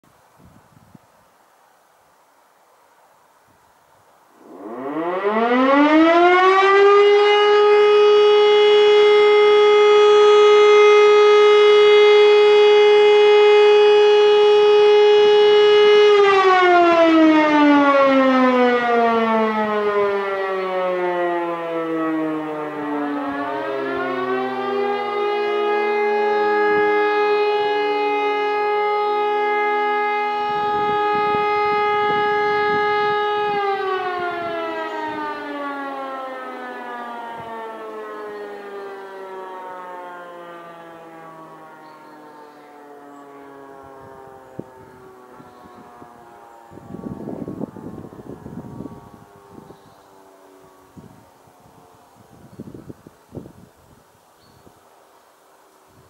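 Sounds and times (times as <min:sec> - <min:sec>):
civil defence siren winding: 0:04.4 - 0:53.7.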